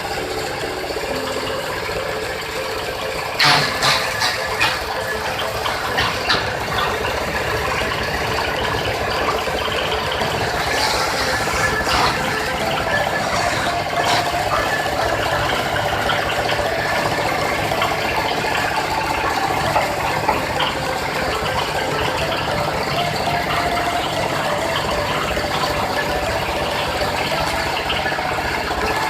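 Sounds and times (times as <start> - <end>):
machine fast mechanical rattle: 0.0 - 29.0.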